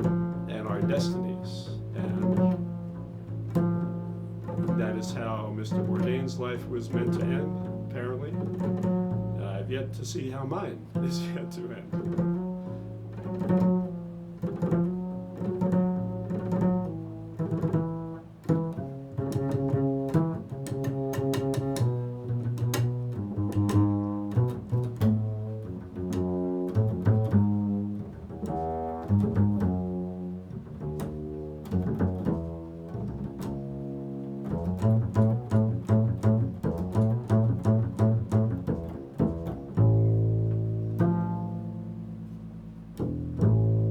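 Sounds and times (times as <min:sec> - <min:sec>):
plucked low string instrument: 0:00.0 - 0:43.9.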